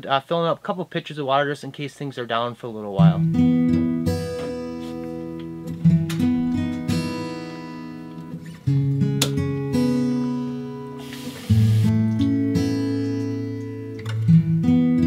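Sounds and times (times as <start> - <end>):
acoustic guitar music: 2.9 - 15.0.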